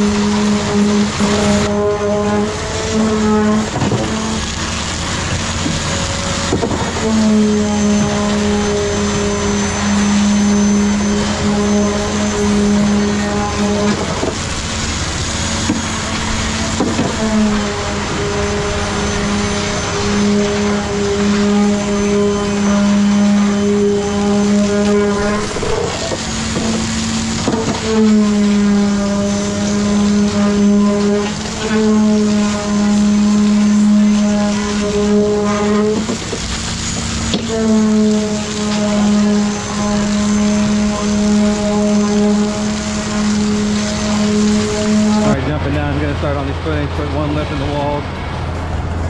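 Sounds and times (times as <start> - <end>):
pump engine droning: 0.0 - 49.0.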